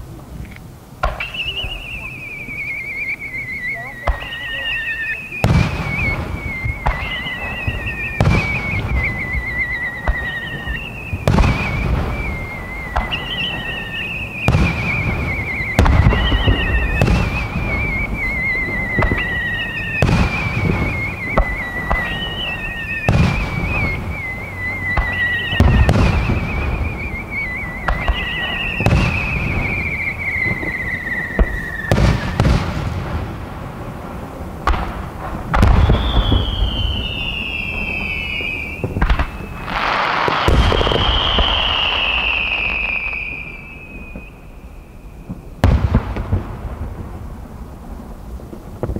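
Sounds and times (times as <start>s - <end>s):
rushing hiss: 0.0s - 48.9s
firework shells bursting: 0.4s - 47.4s
descending firework whistles: 1.0s - 48.9s.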